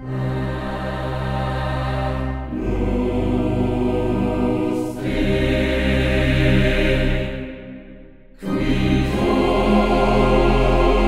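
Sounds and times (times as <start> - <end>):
slow chant-like chords: 0.0 - 11.0.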